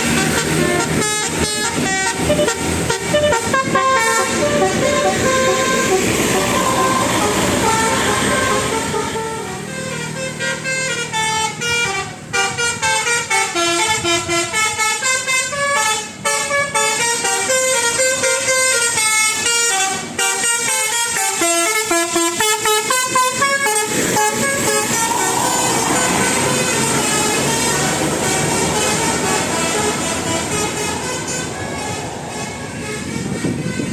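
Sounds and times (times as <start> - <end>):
bus air horn melody: 0.0 - 33.9.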